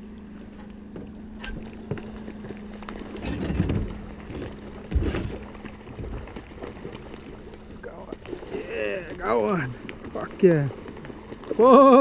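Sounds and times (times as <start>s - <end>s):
steady low hum: 0.0s - 12.0s
water splashing around boat: 0.0s - 12.0s.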